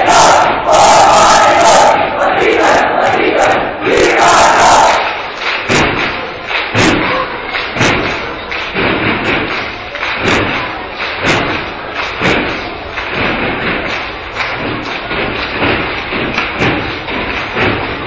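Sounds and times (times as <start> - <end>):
crowd murmur: 0.0 - 18.0
steady rhythmic thuds: 0.0 - 18.0.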